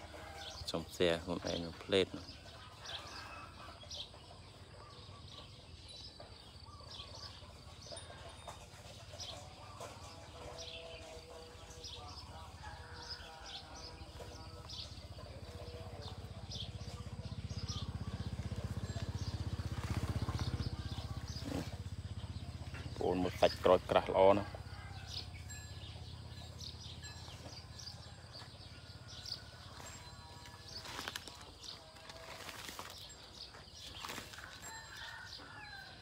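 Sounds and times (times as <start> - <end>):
small birds chirping: 0.2 - 36.0.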